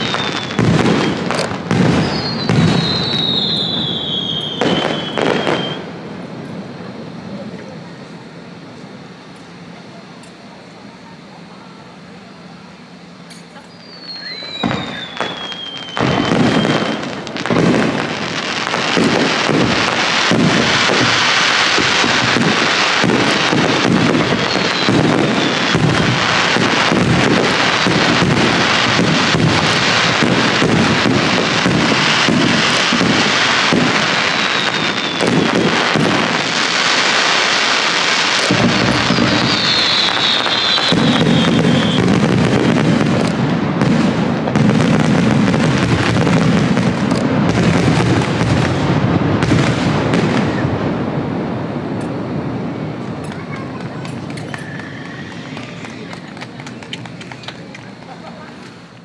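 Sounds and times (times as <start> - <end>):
fireworks bursts and crackle: 0.0 - 59.0
fireworks falling whistles: 0.0 - 59.0.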